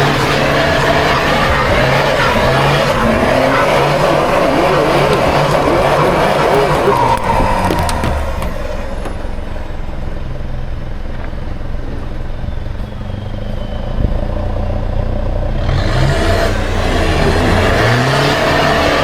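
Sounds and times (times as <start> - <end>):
rushing tyre noise: 0.0 - 19.0
vehicle engine revving: 0.0 - 19.0.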